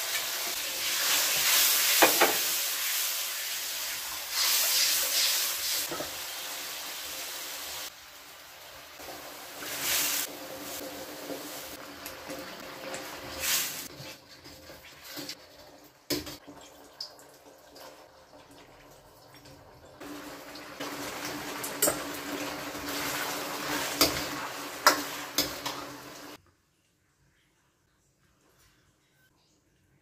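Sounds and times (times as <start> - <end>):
sauce bubbling and sizzling: 0.0 - 26.4.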